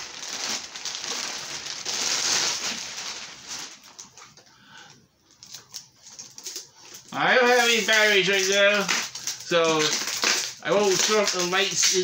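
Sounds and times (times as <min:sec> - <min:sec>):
plastic bag crinkling: 0:00.0 - 0:04.5, 0:05.3 - 0:12.0.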